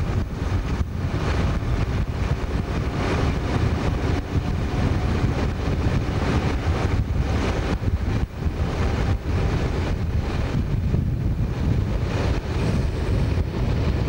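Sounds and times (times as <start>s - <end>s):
train running rumble: 0.0s - 14.0s
wind buffeting microphone: 0.0s - 14.0s.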